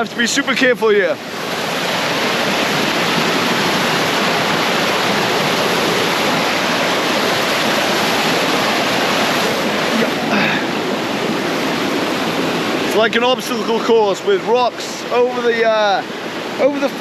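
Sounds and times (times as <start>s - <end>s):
waterfall and rapids roaring: 0.0s - 17.0s.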